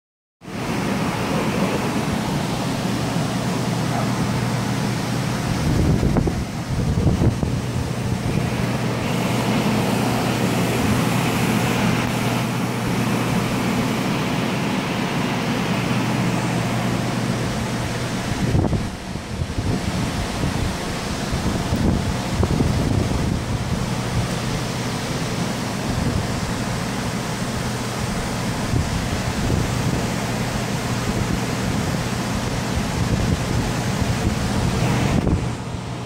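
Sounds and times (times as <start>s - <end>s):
blower air rushing: 0.4s - 36.0s
wind buffeting microphone: 0.6s - 14.1s, 15.7s - 36.0s.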